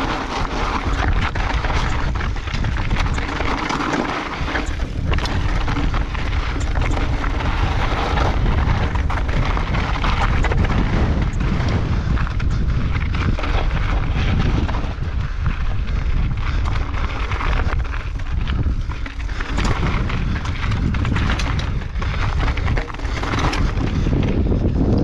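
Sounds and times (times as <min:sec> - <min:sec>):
bike rattling and clacking: 0:00.0 - 0:25.0
tyres crunching over rock: 0:00.0 - 0:25.0
wind buffeting microphone: 0:00.0 - 0:25.0.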